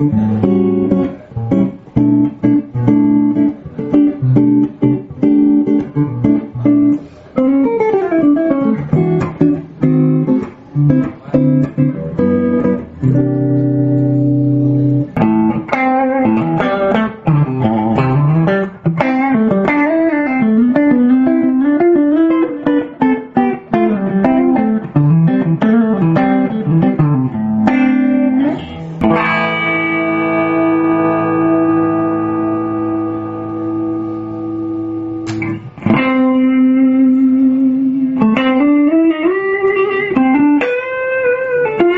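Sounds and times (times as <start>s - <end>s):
solo guitar playing: 0.0s - 41.9s.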